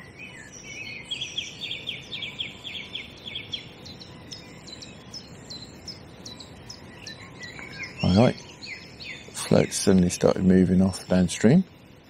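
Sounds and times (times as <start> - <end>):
outdoor background noise: 0.0 - 12.0
songbirds singing: 0.0 - 12.0.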